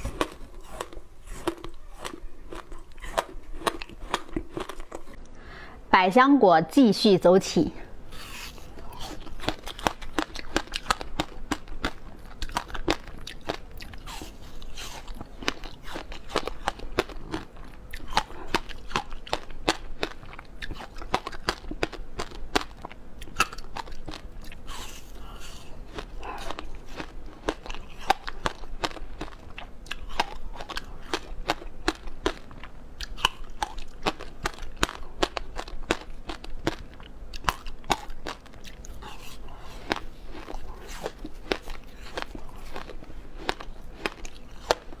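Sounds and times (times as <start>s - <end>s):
icy crunching while chewing: 0.0s - 5.2s, 8.1s - 45.0s.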